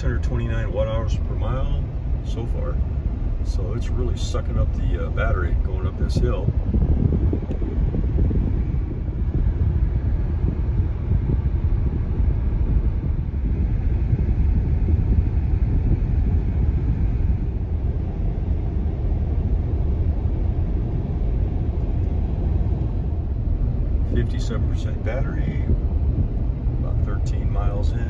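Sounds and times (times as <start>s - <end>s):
road and tyre noise: 0.0s - 28.0s
wind noise: 0.0s - 28.0s.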